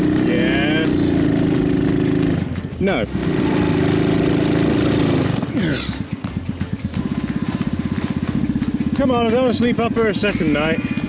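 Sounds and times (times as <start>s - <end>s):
small engine revving then idling: 0.0s - 11.0s.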